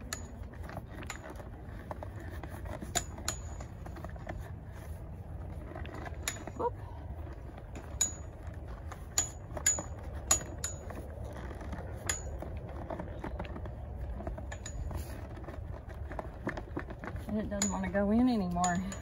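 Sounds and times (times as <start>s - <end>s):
metal saddle buckle clinking: 0.0s - 19.0s.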